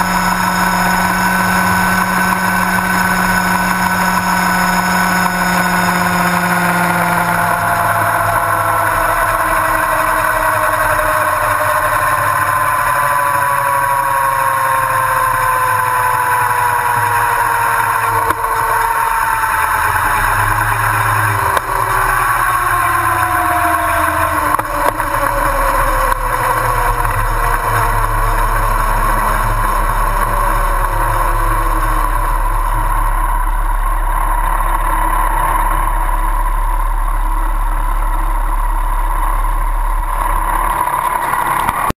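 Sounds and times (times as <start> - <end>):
motorcycle engine slowing to idle: 0.0 - 42.0.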